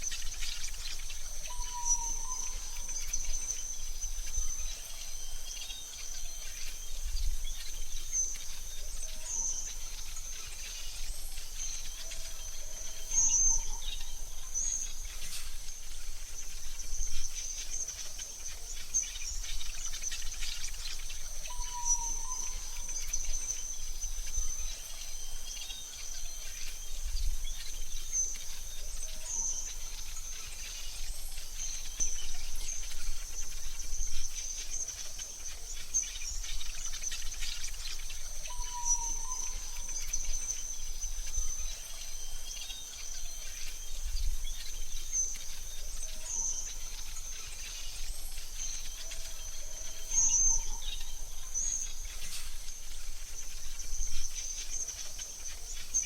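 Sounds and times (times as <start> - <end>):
bird chirps and calls: 0.0 - 56.0
insects droning: 0.0 - 56.0.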